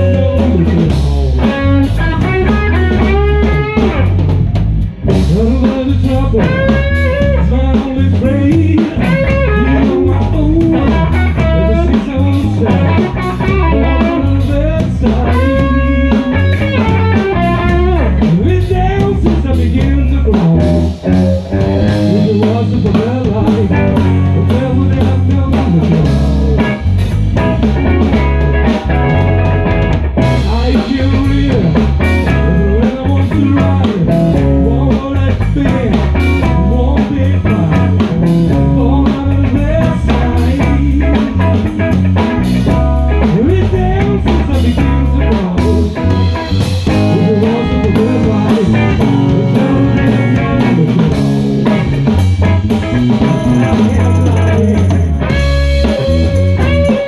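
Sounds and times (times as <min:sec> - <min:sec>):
blues band playing: 0:00.0 - 0:57.0.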